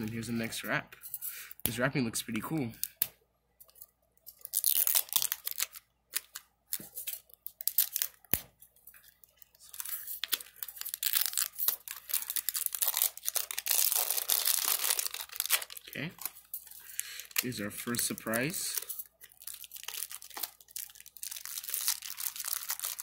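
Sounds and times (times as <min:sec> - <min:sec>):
plastic wrap crinkling and tearing: 0:04.3 - 0:23.0.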